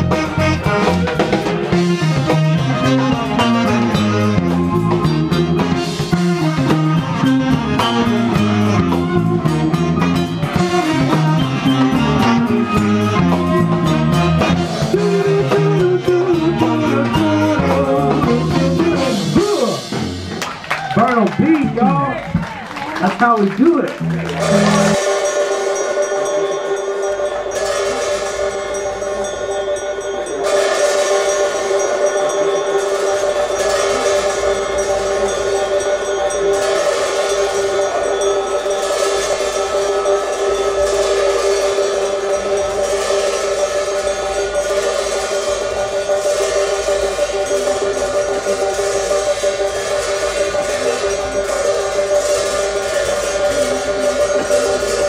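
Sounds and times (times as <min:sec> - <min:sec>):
ritual horns holding long notes: 0:00.0 - 0:20.2, 0:24.0 - 0:55.0.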